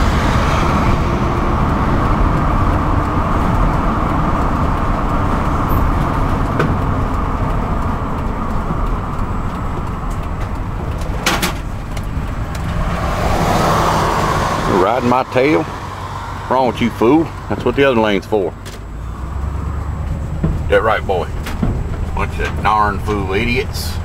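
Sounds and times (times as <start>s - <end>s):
car cabin road and engine rumble: 0.0s - 24.0s.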